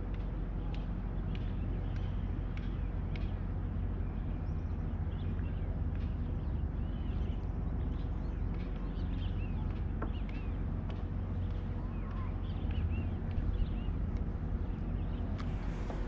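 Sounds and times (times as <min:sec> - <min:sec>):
low rumble of wind and water: 0:00.0 - 0:16.0.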